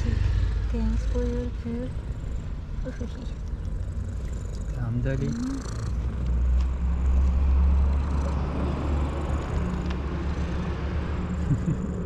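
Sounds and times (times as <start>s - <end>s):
motor vehicle passing by: 0.0s - 12.0s.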